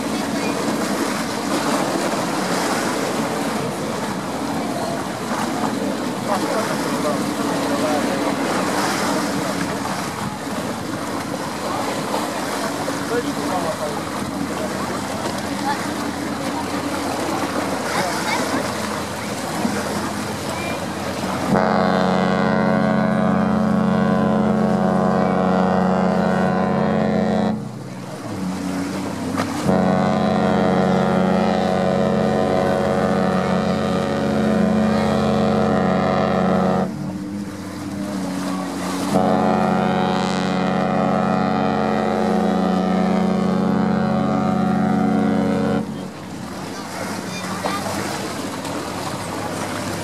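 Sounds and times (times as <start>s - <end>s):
ship's horn blasts: 0.0s - 50.0s.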